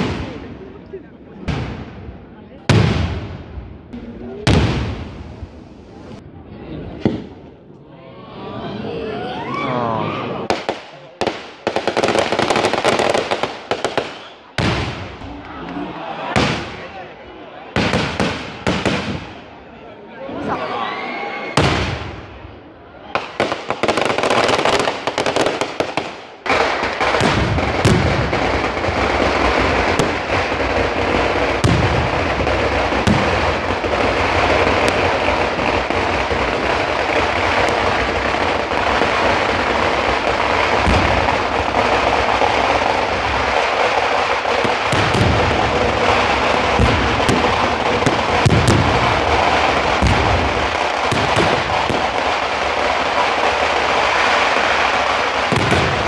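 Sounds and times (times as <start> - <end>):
fireworks crackling: 0.0 - 6.2, 10.5 - 19.8, 21.5 - 56.0
deep fireworks booms: 0.0 - 7.6, 10.4 - 19.6, 21.5 - 56.0.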